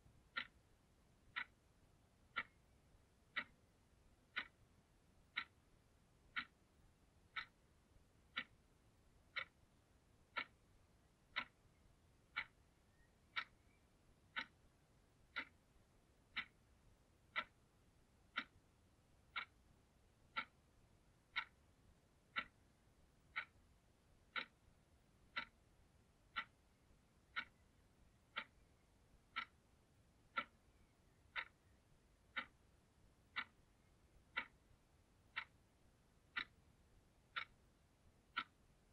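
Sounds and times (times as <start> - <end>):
alarm clock ticking: 0.2 - 0.7, 1.3 - 4.6, 5.2 - 38.9.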